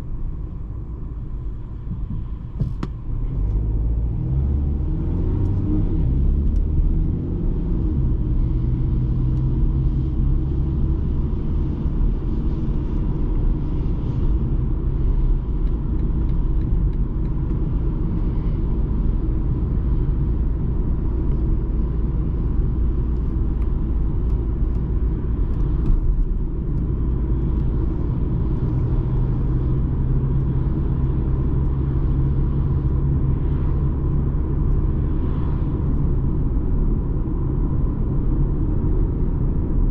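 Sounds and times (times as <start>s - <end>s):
diesel engine rumble: 0.0s - 39.9s
tyre and road noise: 0.0s - 39.9s.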